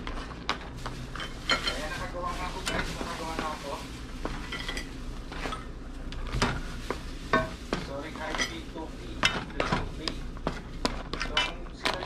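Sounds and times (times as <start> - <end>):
faint sizzle: 0.6 - 10.8.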